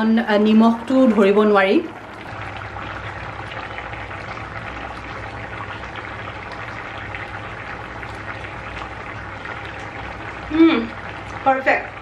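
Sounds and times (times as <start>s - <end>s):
broth bubbling in a pan: 0.0s - 12.0s.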